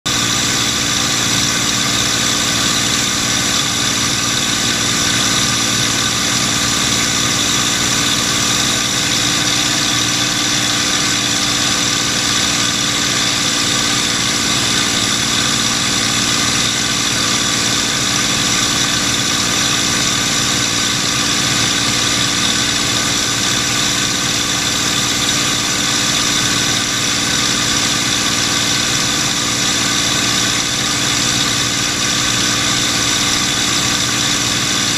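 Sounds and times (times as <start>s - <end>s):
aircraft engine drone in cockpit: 0.1s - 34.9s.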